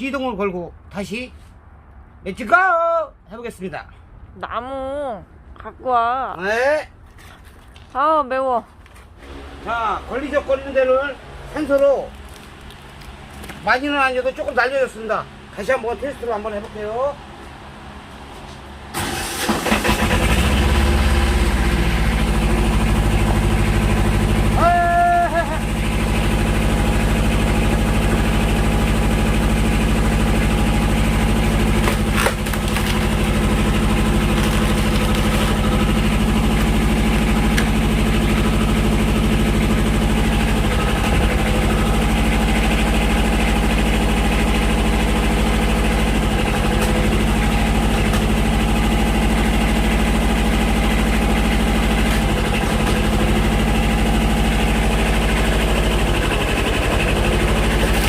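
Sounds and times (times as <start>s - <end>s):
tractor engine running: 8.8s - 15.5s, 17.3s - 58.0s.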